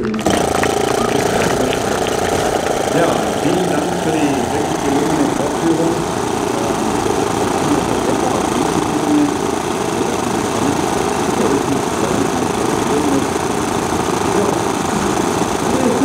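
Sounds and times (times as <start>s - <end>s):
model aircraft engines running: 0.0s - 16.0s.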